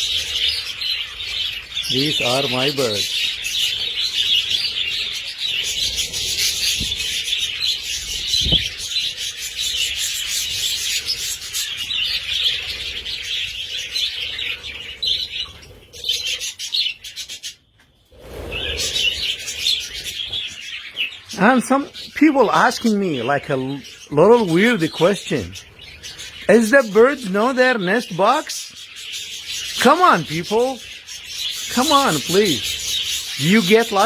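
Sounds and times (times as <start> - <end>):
lovebirds chattering: 0.0 - 34.0.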